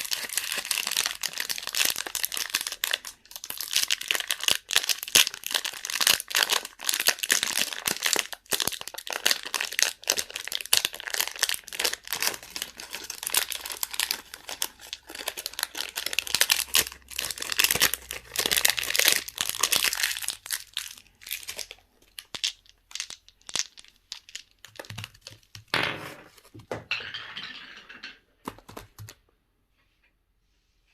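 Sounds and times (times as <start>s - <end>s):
plastic wrapping crinkling: 0.0s - 25.7s.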